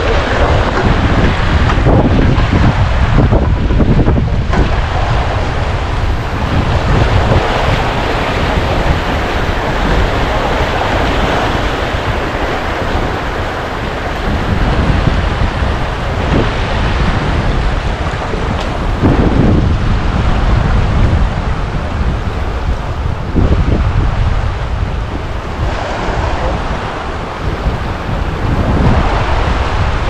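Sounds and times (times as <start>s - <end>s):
sea waves washing: 0.0s - 30.0s
wind buffeting microphone: 0.0s - 30.0s.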